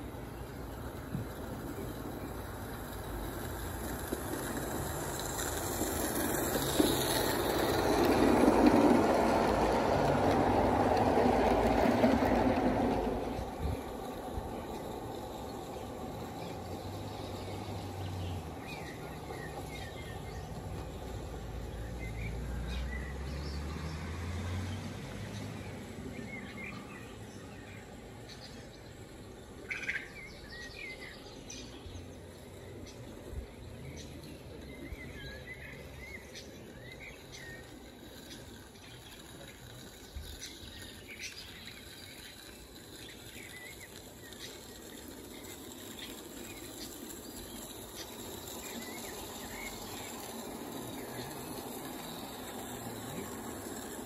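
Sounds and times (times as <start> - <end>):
outdoor background noise: 0.0 - 54.0
small birds chirping: 0.0 - 54.0.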